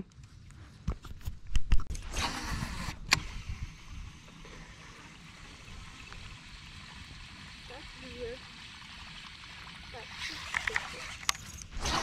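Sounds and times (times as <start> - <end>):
fishing reel spool whirring: 2.1 - 12.0.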